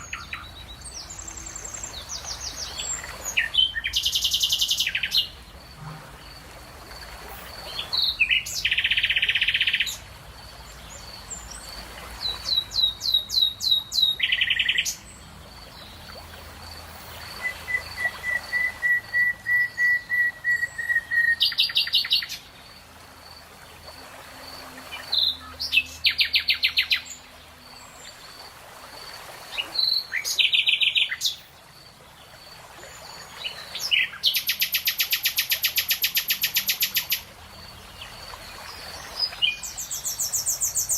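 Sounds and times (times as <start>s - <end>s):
songbirds singing trills: 0.0s - 6.0s, 7.3s - 22.8s, 24.6s - 28.4s, 29.5s - 40.9s.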